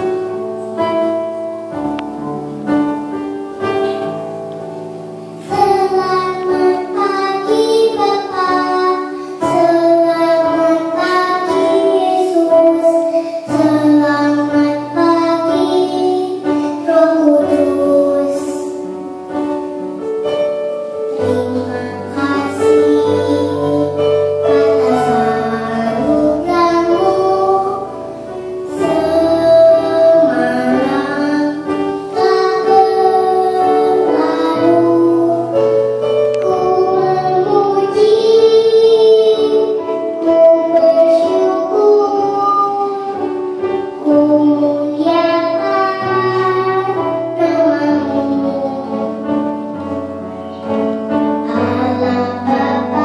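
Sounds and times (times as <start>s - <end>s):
girl singing into a microphone: 0.0s - 53.0s
keyboard chords: 0.0s - 53.0s.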